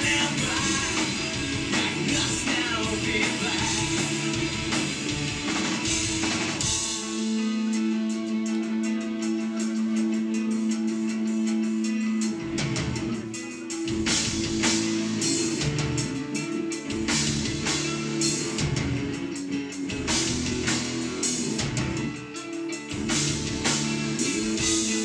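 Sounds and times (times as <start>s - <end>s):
drum kit beat: 0.0s - 25.0s
electric guitars: 0.0s - 25.0s.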